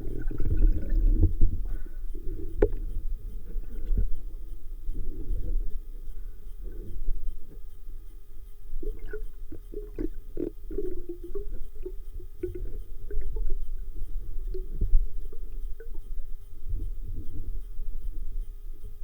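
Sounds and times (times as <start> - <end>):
muffled gurgles: 0.0 - 7.7, 8.7 - 19.0
underwater low rumble: 0.0 - 19.0.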